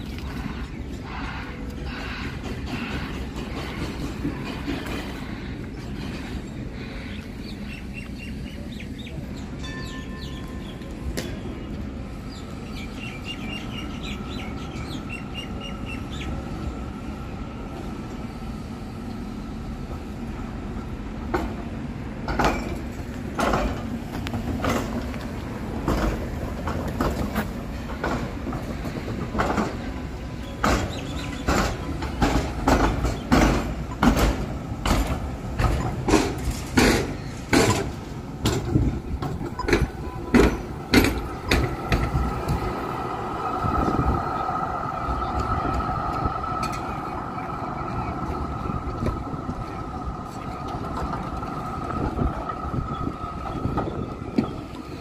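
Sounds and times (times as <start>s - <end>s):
tram rumble: 0.0s - 55.0s
tram wheels clacking over rail joints: 0.0s - 55.0s.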